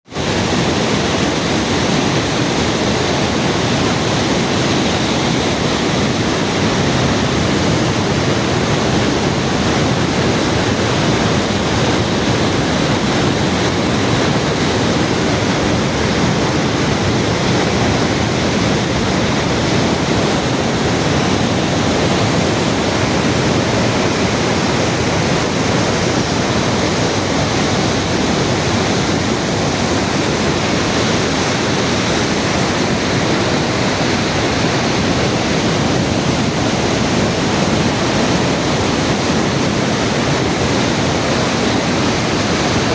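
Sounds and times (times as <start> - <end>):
rushing water: 0.0 - 42.9.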